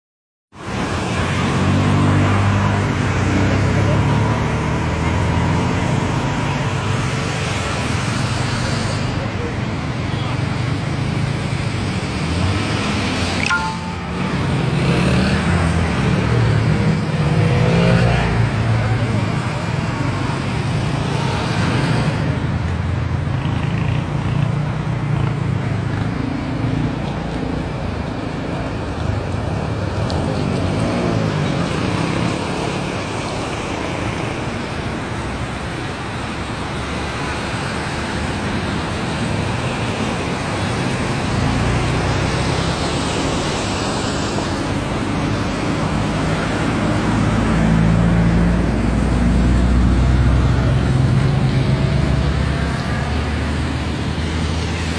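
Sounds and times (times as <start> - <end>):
continuous hiss of wet road: 0.6 - 54.9.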